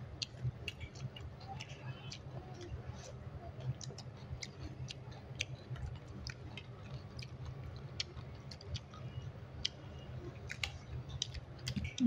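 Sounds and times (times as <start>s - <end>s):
low steady hum: 0.0s - 12.0s
chewing: 0.2s - 9.8s, 10.4s - 12.0s.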